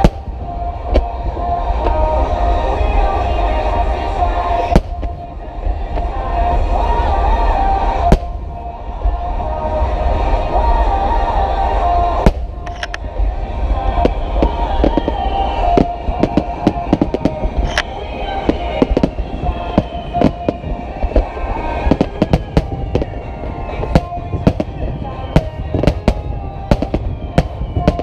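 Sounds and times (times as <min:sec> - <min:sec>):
fireworks bursting: 0:00.0 - 0:28.0
music: 0:00.0 - 0:28.0.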